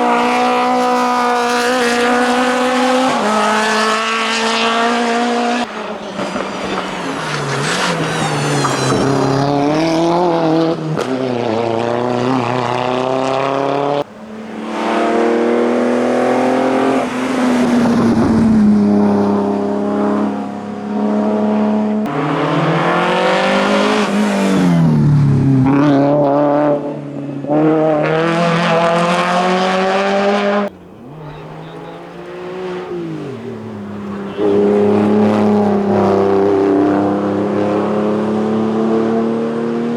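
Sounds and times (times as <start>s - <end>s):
racing car engines revving: 0.0s - 39.9s.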